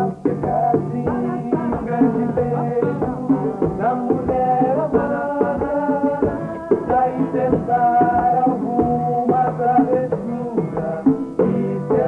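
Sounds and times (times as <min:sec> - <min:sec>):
hand drum: 0:00.0 - 0:12.0
people singing a melody: 0:00.0 - 0:12.0
strummed acoustic guitar: 0:00.0 - 0:12.0.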